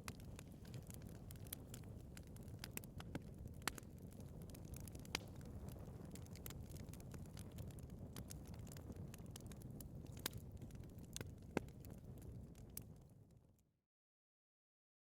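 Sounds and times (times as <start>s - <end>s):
burning wood crackling and popping: 0.0s - 13.1s
fire flames rumbling: 0.0s - 13.3s.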